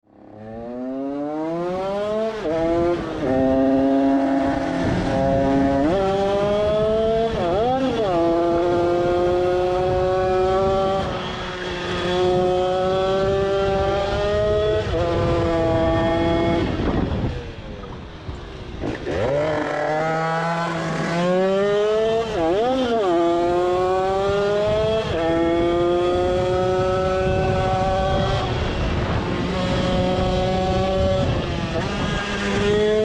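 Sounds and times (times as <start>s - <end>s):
two-stroke engine revving: 0.3s - 17.0s, 18.8s - 33.0s.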